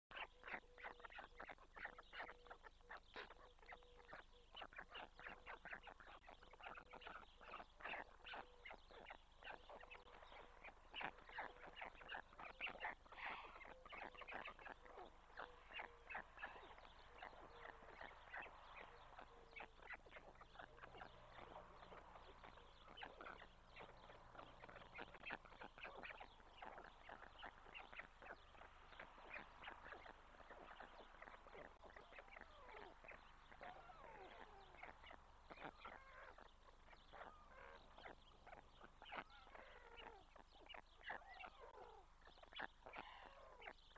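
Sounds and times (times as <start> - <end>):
stork chicks begging calls: 0.1 - 43.9.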